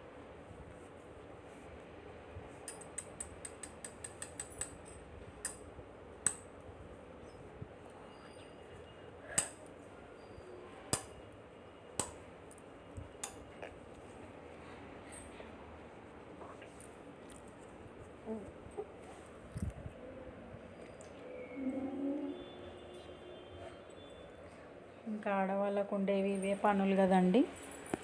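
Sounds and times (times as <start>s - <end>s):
faint steady background noise: 0.0s - 28.0s.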